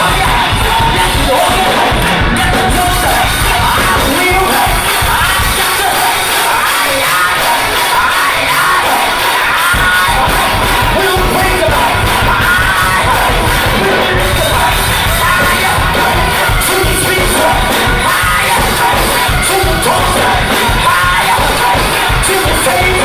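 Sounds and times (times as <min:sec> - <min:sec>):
band with steady drum beat: 0:00.0 - 0:23.0
gospel choir singing: 0:00.0 - 0:23.0.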